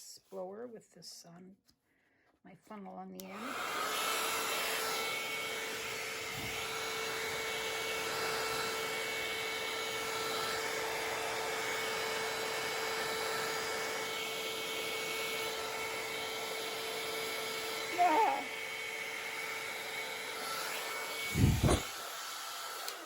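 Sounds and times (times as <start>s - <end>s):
hair dryer blowing: 3.2s - 23.0s.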